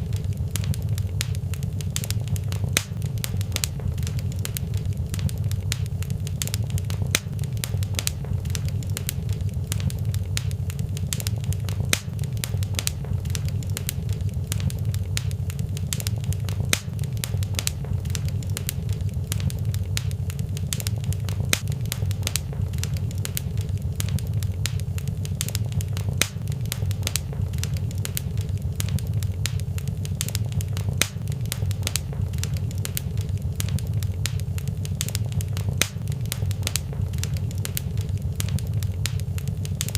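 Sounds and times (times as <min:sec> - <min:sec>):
fireplace fire crackling: 0:00.0 - 0:39.9
low fire rumble: 0:00.0 - 0:39.9.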